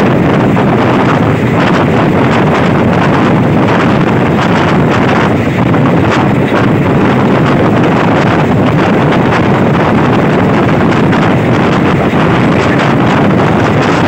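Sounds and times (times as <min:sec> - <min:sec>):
train running on track: 0:00.0 - 0:14.0
wind buffeting microphone: 0:00.0 - 0:14.0.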